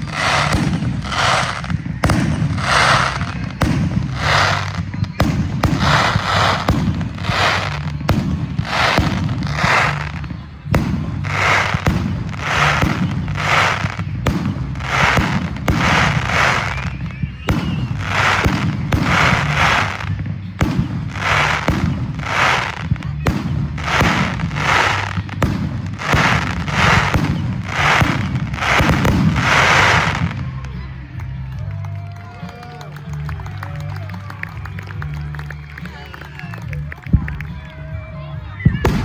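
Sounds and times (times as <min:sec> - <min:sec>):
low rumble: 0:00.0 - 0:31.7
fireworks bangs and crackling: 0:00.0 - 0:39.0.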